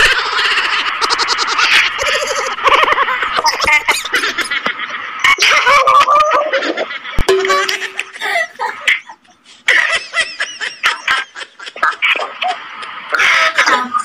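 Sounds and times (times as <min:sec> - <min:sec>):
man and woman laughing: 0:00.0 - 0:13.8.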